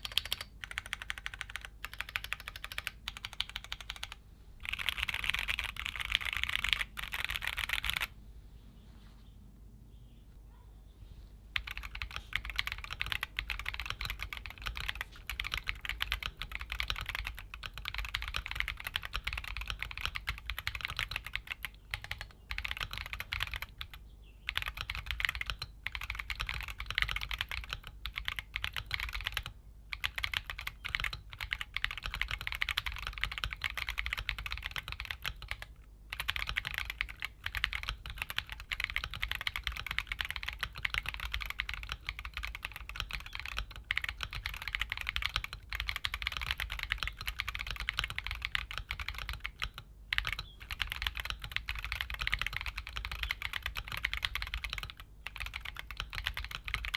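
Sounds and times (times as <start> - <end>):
mechanical keyboard typing: 0.0 - 8.1, 11.6 - 56.9.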